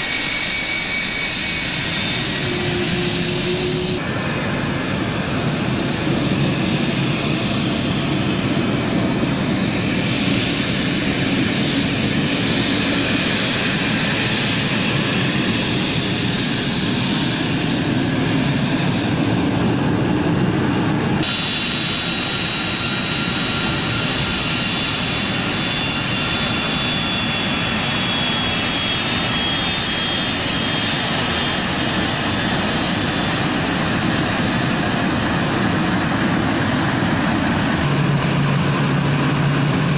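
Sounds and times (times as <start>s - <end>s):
jet engines roaring: 0.0s - 39.9s
turbine whine: 0.0s - 39.9s
whistling engine sound: 0.0s - 39.9s.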